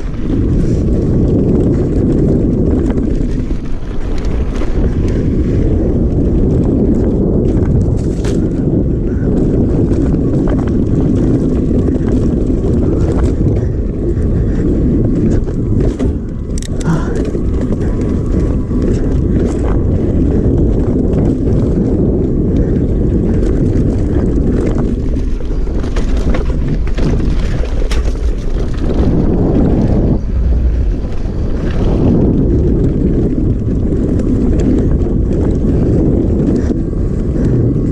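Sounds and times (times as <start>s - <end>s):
bike clicks and rattles: 0.0s - 37.9s
tyre noise on dirt trail: 0.0s - 37.9s
wind buffeting microphone: 0.0s - 37.9s.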